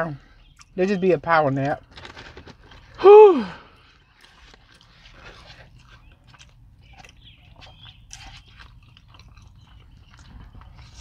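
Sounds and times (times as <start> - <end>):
person chewing food: 0.4 - 0.8, 1.8 - 3.0, 3.7 - 11.0.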